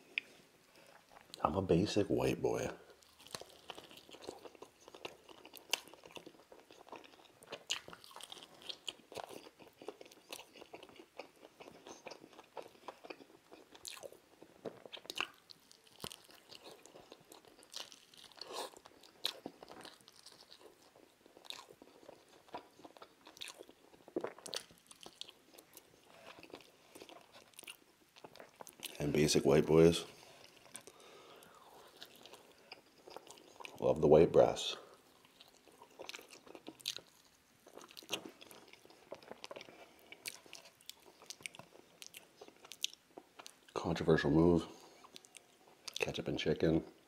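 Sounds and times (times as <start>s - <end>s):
wet chewing: 3.0s - 29.0s, 30.2s - 33.8s, 34.8s - 43.8s
crunching fried chicken: 3.0s - 43.8s.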